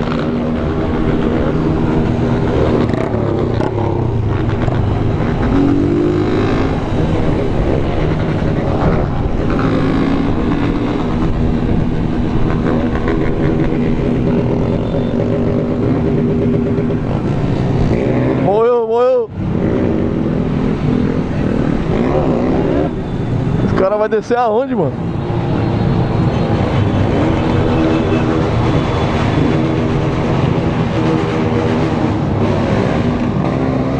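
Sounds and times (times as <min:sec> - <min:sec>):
many motorcycles revving: 0:00.0 - 0:33.9.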